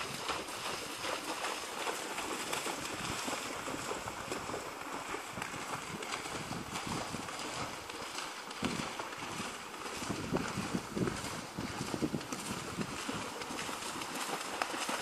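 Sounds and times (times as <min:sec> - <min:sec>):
wind buffeting microphone: 0:00.0 - 0:14.4
hooves splashing in water: 0:00.0 - 0:15.0.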